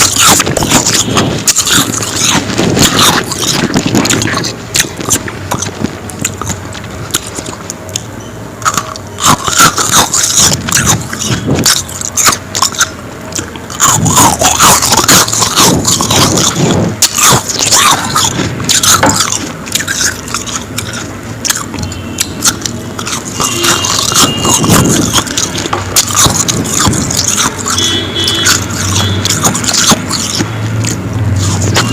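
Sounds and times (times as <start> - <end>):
person chewing crunchy ice: 0.0 - 31.9.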